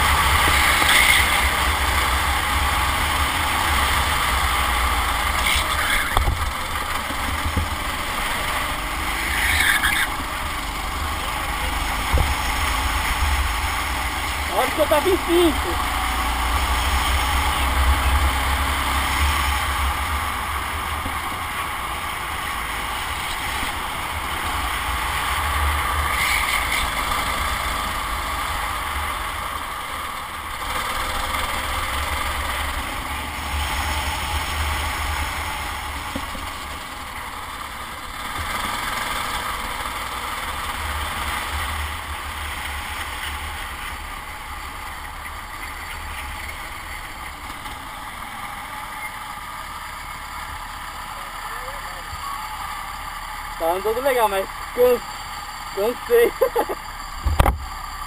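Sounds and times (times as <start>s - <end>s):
racing kart engine: 0.0s - 58.0s.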